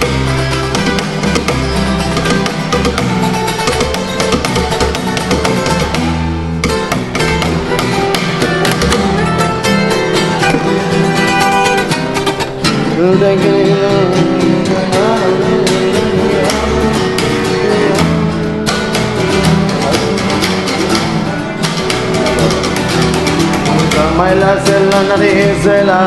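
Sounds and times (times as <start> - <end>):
song with guitar and singing: 0.0 - 26.0.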